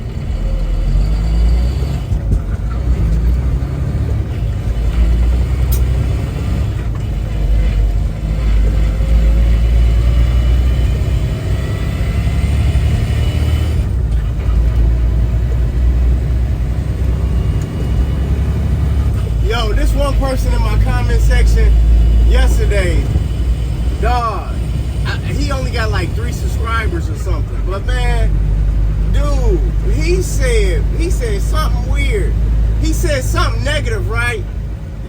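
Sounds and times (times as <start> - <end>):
truck engine and road drone: 0.0 - 35.0.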